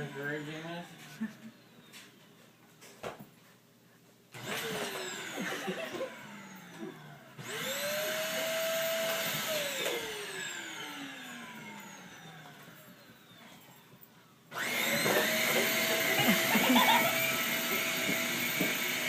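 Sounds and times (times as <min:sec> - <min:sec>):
vacuum cleaner motor whining: 0:00.0 - 0:02.4, 0:04.3 - 0:19.0.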